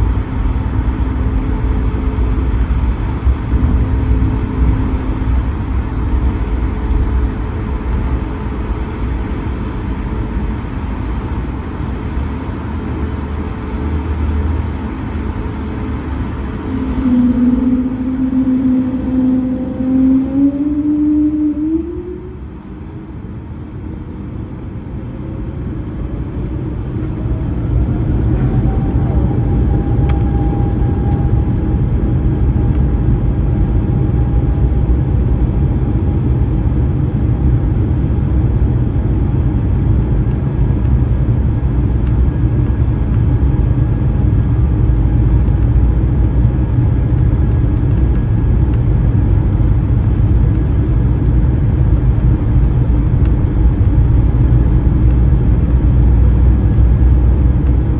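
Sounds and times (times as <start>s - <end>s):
heavy rumble of takeoff roll: 0.0s - 57.9s
jet engine whine: 0.0s - 57.9s.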